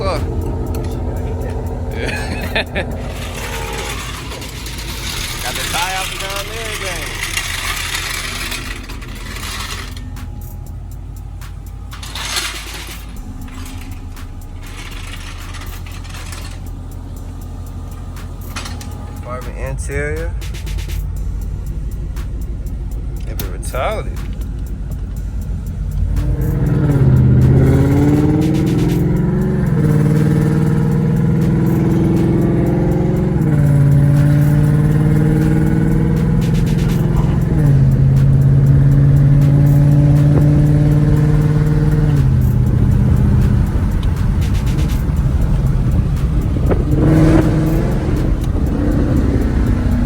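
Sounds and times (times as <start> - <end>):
car engine exhaust while driving: 0.0 - 50.0.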